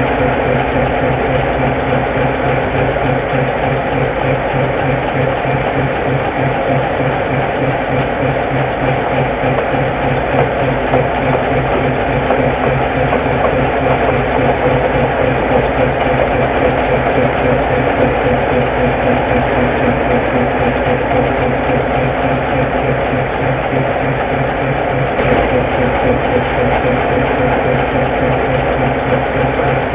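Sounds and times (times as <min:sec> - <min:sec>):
diesel locomotive engine running: 0:00.0 - 0:29.9.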